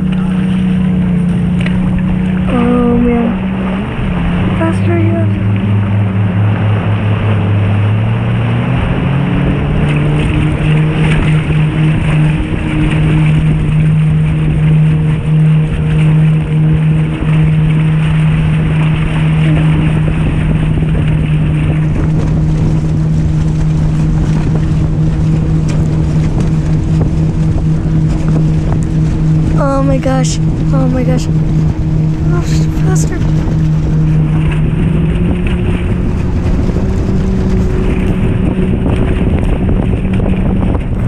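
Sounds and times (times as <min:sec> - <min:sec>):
motorboat engine: 0:00.0 - 0:41.0
rushing wake water: 0:00.0 - 0:41.0
wind: 0:00.0 - 0:41.0.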